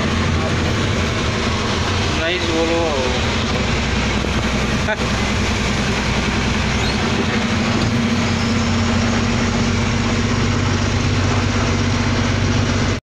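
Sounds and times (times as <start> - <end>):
road noise hiss: 0.0 - 12.8
truck diesel engine running: 0.0 - 13.0.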